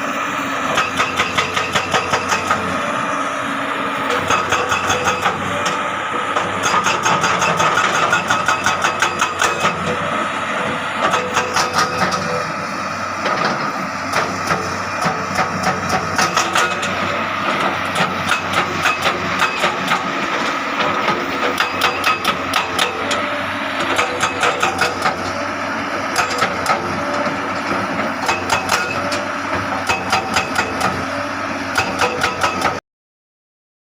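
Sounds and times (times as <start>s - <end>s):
diesel engine running: 0.0s - 32.8s.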